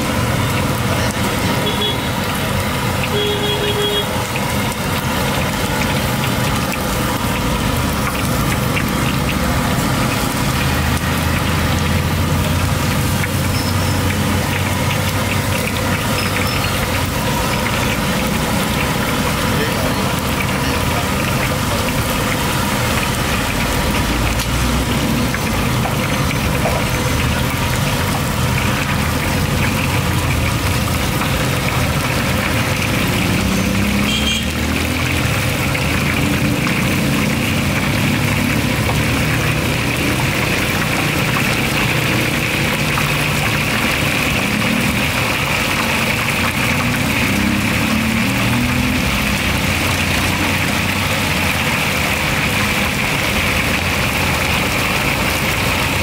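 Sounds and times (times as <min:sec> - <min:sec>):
engines running: 0:00.0 - 0:56.0
hot oil sizzling: 0:00.0 - 0:56.0.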